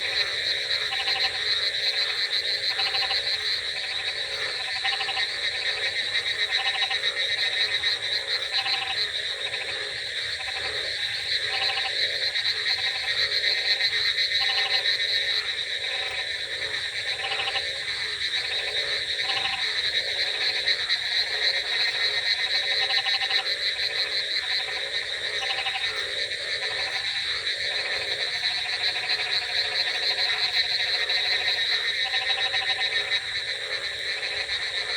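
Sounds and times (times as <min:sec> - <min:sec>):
frogs croaking: 0:00.0 - 0:34.9.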